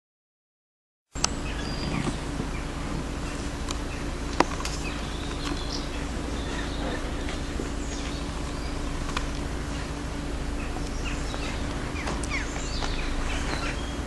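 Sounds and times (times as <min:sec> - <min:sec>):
faint hum: 0:01.2 - 0:14.0
low rumble: 0:01.2 - 0:14.0
small birds chirping: 0:01.2 - 0:14.0.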